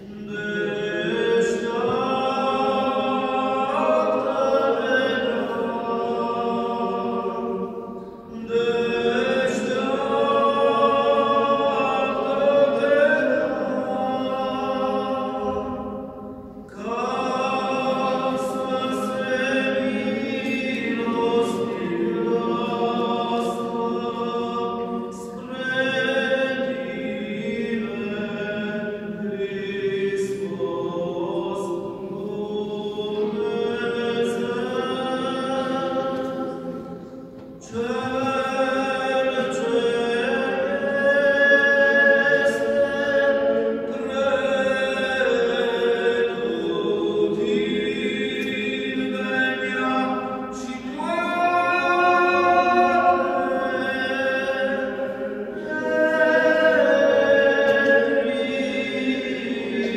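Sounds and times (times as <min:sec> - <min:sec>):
clergy chanting: 0:00.0 - 0:59.9.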